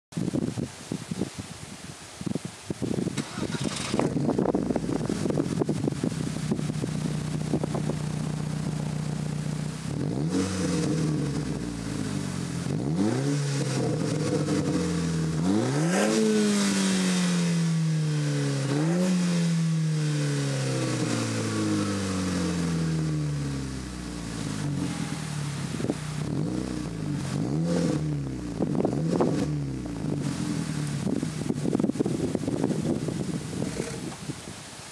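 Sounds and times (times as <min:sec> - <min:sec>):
car engine revving: 0:03.2 - 0:34.2.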